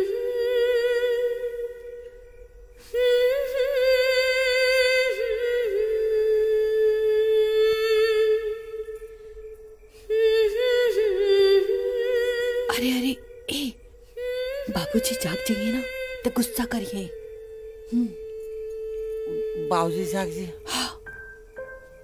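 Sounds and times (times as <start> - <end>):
humming on a high note: 0.0 - 22.0.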